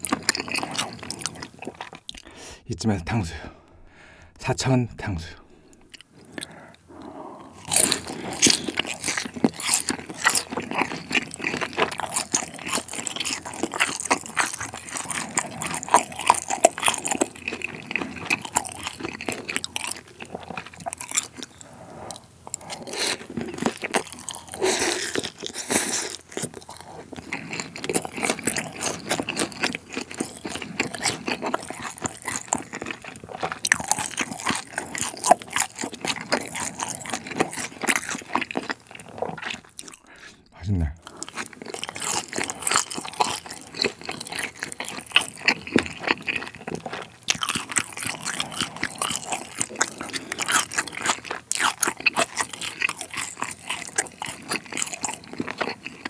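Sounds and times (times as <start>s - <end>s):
chewing crispy fried food: 0.0s - 2.4s, 5.7s - 56.0s.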